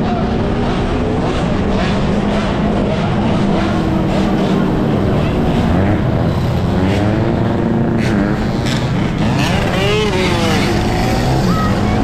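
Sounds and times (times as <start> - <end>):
dirt bike engine revving: 0.4 - 12.0.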